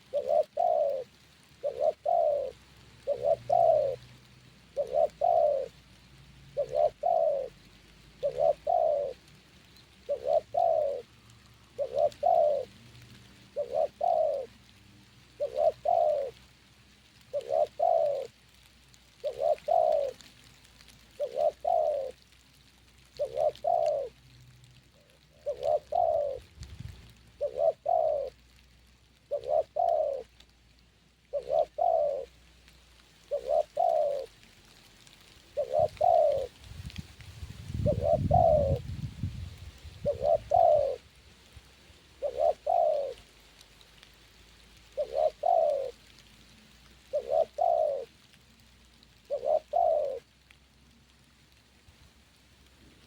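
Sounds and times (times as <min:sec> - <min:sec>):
dove cooing: 0:00.0 - 0:16.5, 0:17.1 - 0:22.3, 0:22.9 - 0:24.2, 0:24.9 - 0:28.5, 0:29.1 - 0:30.5, 0:31.2 - 0:32.4, 0:33.2 - 0:41.2, 0:42.0 - 0:48.3, 0:49.1 - 0:50.3.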